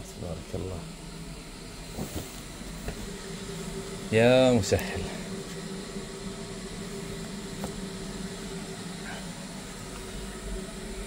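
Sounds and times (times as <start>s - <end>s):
background hiss: 0.0s - 11.0s
low mechanical hum: 0.0s - 11.0s.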